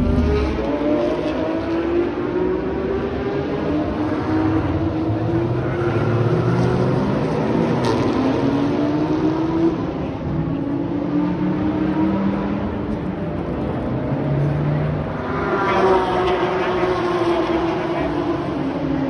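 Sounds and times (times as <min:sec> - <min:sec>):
race car engines accelerating: 0:00.0 - 0:19.0.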